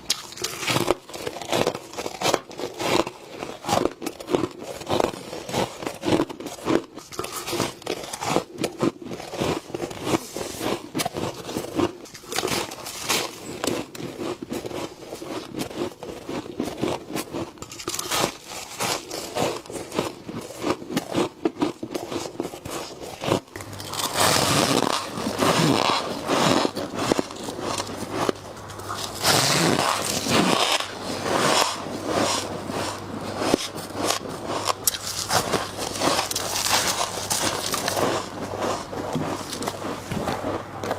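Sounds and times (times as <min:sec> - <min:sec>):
faint low hum: 0:00.0 - 0:40.9
frost crunching being chewed: 0:00.0 - 0:40.9.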